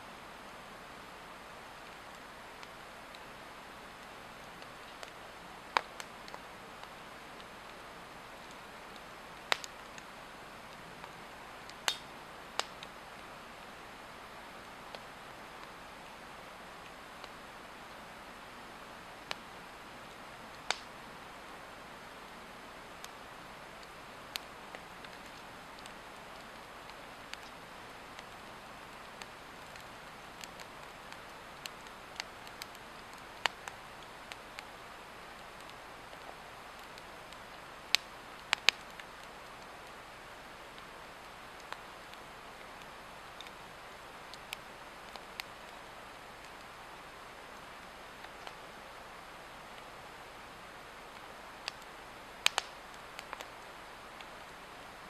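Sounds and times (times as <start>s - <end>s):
steady fire hiss: 0.0s - 55.0s
log fire crackling and popping: 0.4s - 55.0s.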